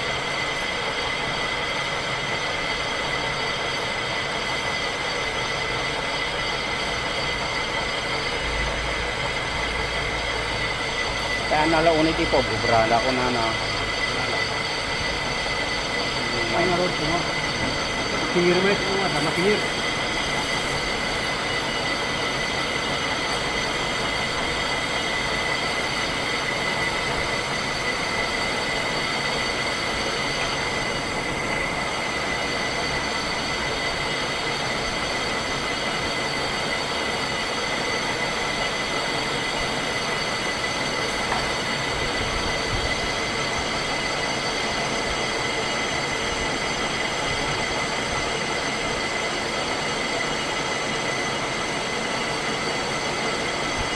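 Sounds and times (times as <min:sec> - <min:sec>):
high-pitched whine: 0:00.0 - 0:53.9
metal lathe running: 0:00.0 - 0:53.9.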